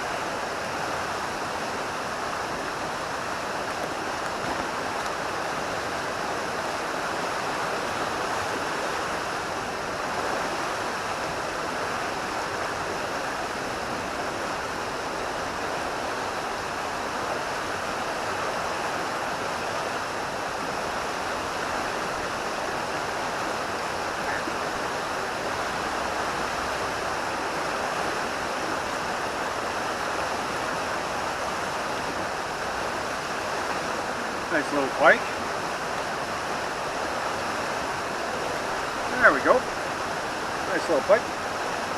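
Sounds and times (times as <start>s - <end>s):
river rushing: 0.0s - 41.9s.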